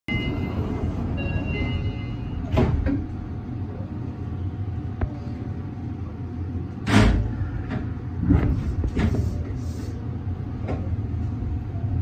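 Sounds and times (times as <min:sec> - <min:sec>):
train cab low rumble: 0:00.1 - 0:12.0.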